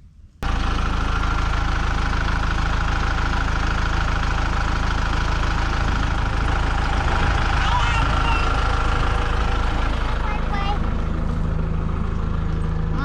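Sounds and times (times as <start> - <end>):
tractor engine running: 0.4 - 13.0.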